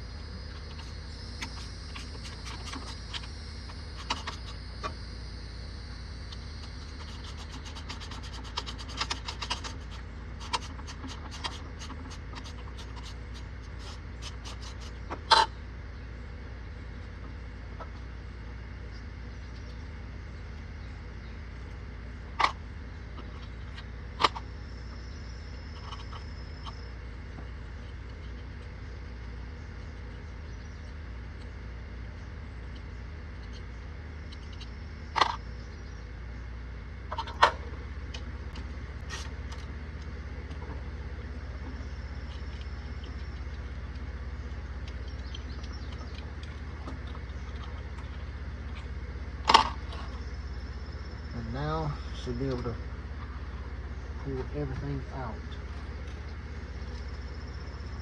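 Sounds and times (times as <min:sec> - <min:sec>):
engine idling: 0:00.0 - 0:58.0
steady low hum: 0:00.0 - 0:58.0.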